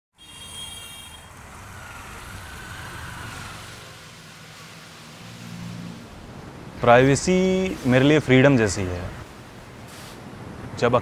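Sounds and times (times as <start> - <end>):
road traffic rumble: 0.2 - 11.0.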